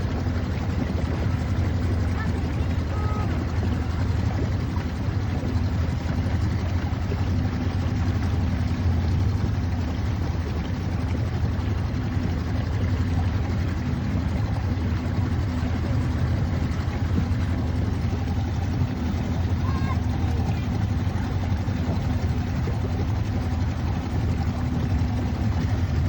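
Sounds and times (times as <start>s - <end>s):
outboard engine running: 0.0s - 26.0s.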